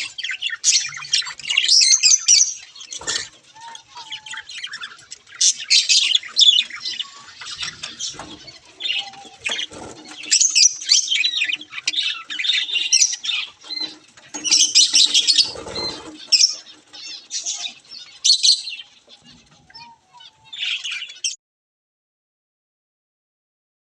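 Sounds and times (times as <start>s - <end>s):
budgerigars chattering: 0.0s - 21.4s.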